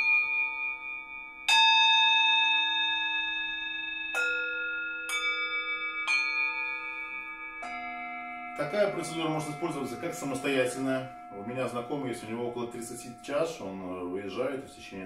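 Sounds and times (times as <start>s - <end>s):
singing bowls ringing: 0.0s - 15.0s.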